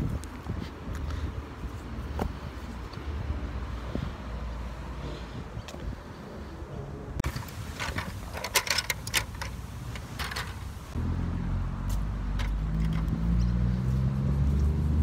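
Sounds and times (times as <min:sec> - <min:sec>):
vehicle engine rumble approaching: 0:01.5 - 0:15.0.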